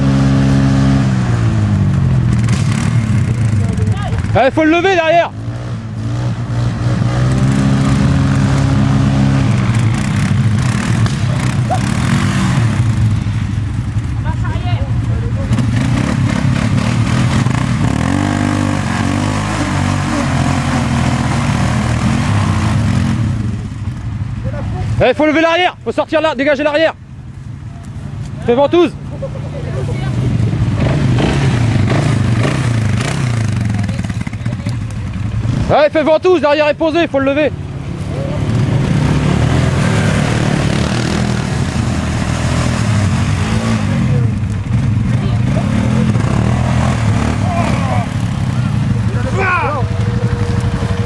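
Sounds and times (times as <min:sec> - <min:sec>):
quad engine revving: 0:00.0 - 0:14.5, 0:15.3 - 0:23.8, 0:28.8 - 0:51.0.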